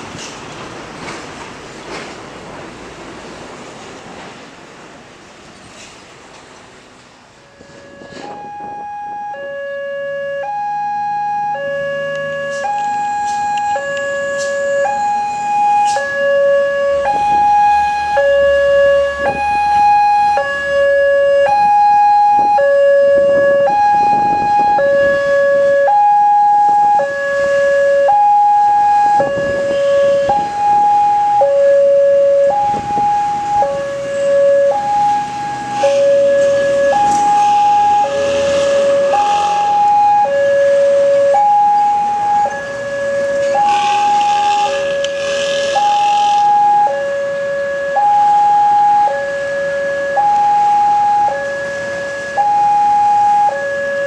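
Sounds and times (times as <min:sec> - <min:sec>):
level crossing two-tone alarm: 0:07.5 - 0:54.0.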